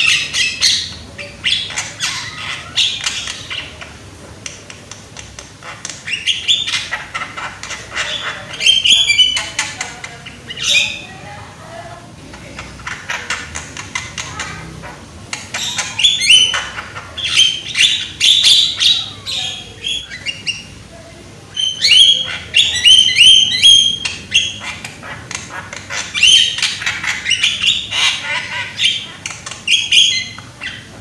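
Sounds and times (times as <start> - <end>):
myna bird singing: 0.0 - 31.0.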